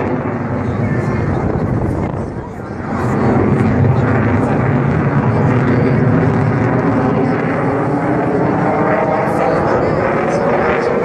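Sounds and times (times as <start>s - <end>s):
jet fighter flying overhead: 0.0s - 11.0s.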